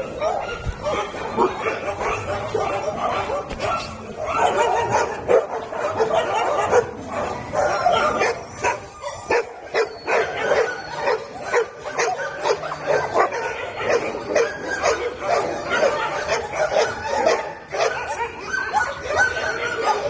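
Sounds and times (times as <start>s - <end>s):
dogs barking and yipping: 0.0s - 20.0s.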